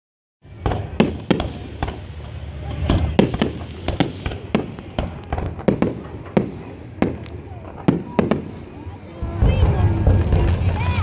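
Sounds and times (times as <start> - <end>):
fireworks bursting with bangs: 0.5 - 11.0.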